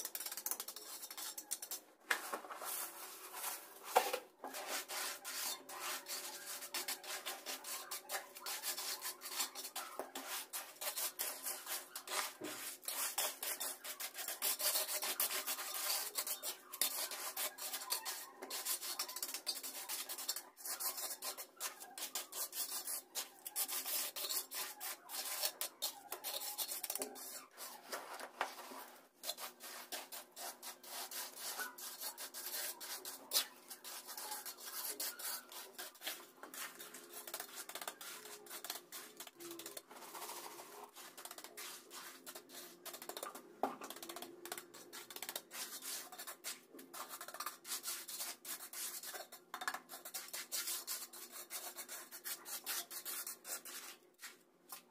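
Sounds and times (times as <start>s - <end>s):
hand tool scraping wet mix: 0.0s - 54.9s.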